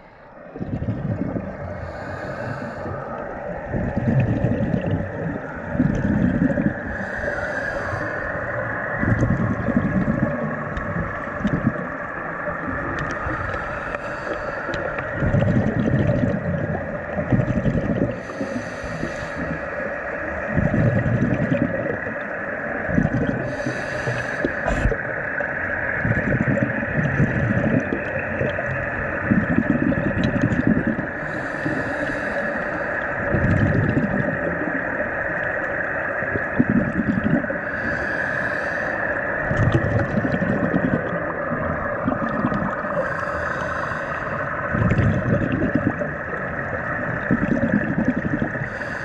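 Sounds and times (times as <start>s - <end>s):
steady high hum: 0.0s - 49.0s
underwater bubbles rumbling: 0.0s - 49.0s.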